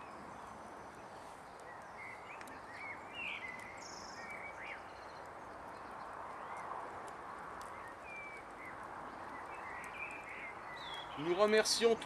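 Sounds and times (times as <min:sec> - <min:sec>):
outdoor background hiss: 0:00.0 - 0:12.0
small birds chirping: 0:00.0 - 0:12.0.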